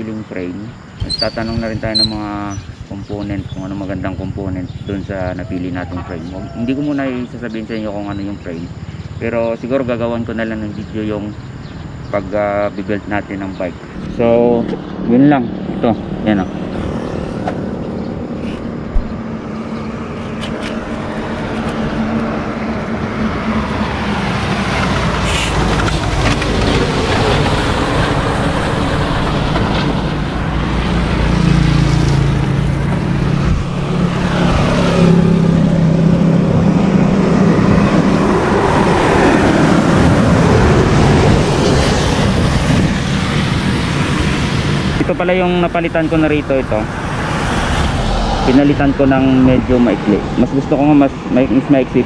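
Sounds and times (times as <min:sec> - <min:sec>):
road traffic passing: 0:00.0 - 0:52.0.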